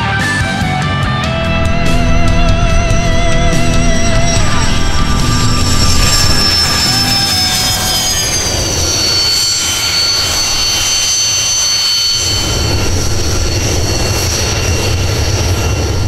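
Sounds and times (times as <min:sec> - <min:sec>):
jet engines whining: 0:00.6 - 0:16.0.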